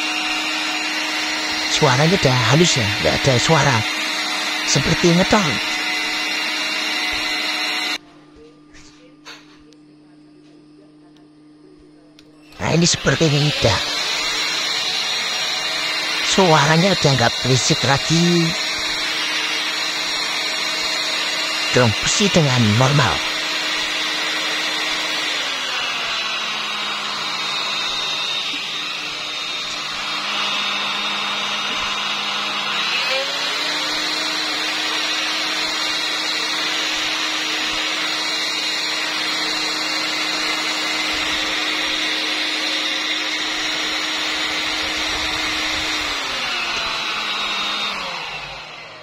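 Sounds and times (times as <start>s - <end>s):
vacuum cleaner motor running: 0.0s - 8.0s, 12.3s - 49.0s.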